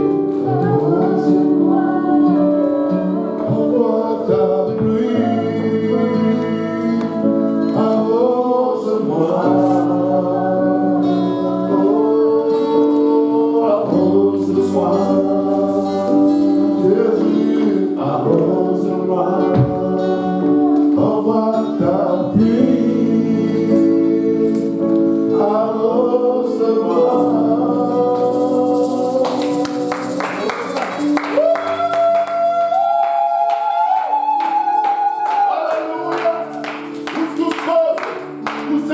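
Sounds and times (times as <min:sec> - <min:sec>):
voices singing slow melody: 0:00.0 - 0:38.9.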